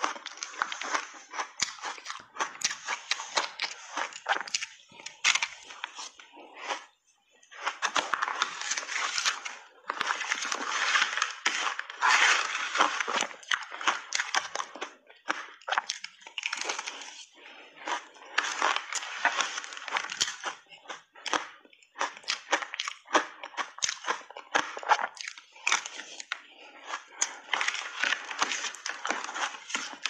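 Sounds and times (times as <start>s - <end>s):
chewing crunchy ice: 0.0s - 30.0s.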